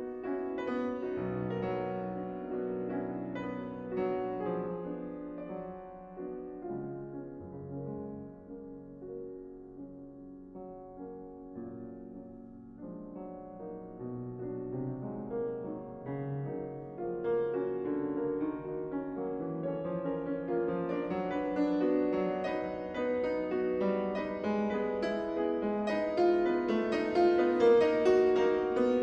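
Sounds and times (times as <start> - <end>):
solo piano classical music: 0.0 - 29.0.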